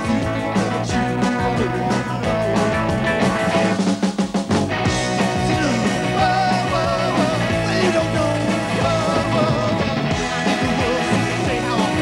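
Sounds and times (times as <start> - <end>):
drum hits: 0.0 - 12.0
rock band playing: 0.0 - 12.0.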